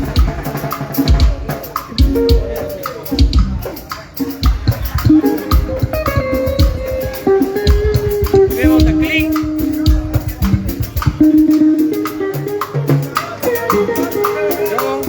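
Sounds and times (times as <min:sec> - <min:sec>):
guitar: 0:00.0 - 0:15.0
steady drum beat: 0:00.0 - 0:15.0.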